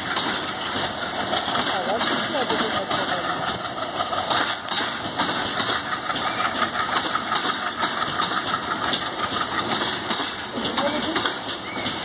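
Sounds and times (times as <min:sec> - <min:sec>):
freight wagon wheels clattering: 0:00.0 - 0:12.0.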